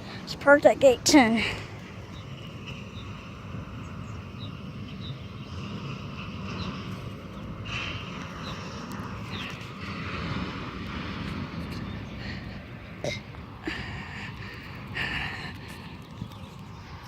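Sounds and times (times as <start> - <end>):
low rumble of aircraft: 0.0 - 17.0.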